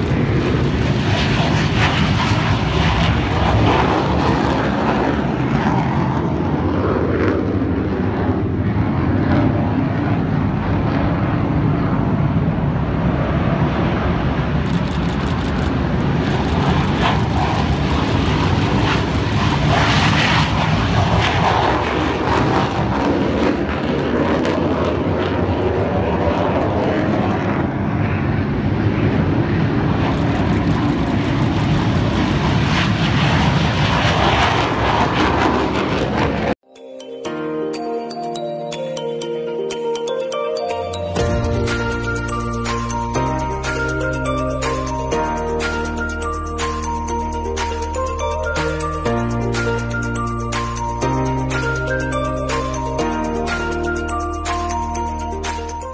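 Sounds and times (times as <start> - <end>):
aircraft engine running: 0.0 - 36.6, 39.6 - 55.9.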